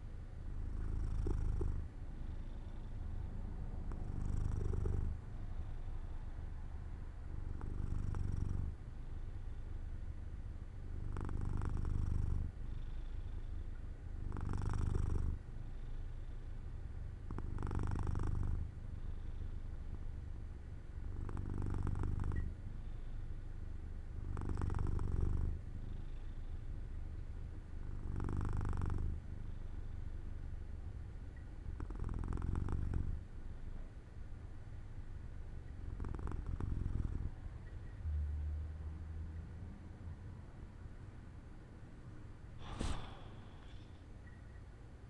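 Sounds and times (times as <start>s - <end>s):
cat purring: 0.0s - 39.9s, 42.6s - 44.6s.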